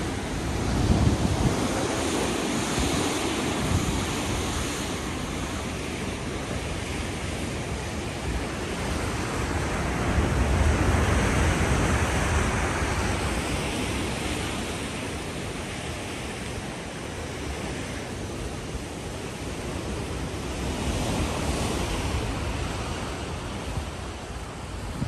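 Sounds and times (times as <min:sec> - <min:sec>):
surf washing against rocks: 0:00.0 - 0:25.0
wind rumbling on microphone: 0:00.0 - 0:25.0.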